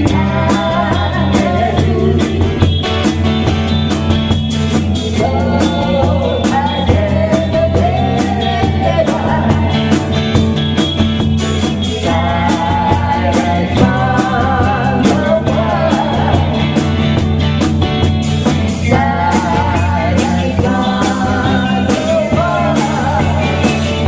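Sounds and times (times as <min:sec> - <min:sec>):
lead vocal singing: 0:00.0 - 0:17.2, 0:18.4 - 0:24.0
rock band playing: 0:00.0 - 0:24.0.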